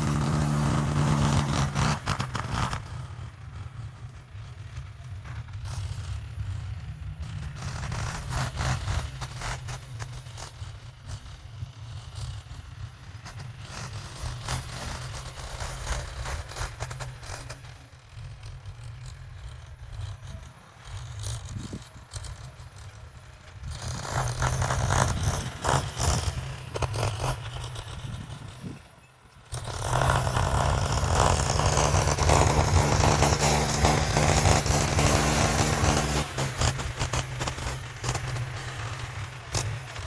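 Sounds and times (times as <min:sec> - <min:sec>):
heavy machinery engine running: 0:00.0 - 0:40.0
rattling and scraping clatter: 0:00.0 - 0:40.0.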